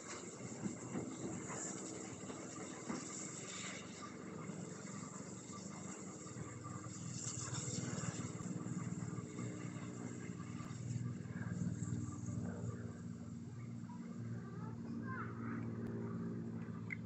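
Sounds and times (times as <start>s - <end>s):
steam locomotive rumbling and hissing: 0.0s - 14.7s.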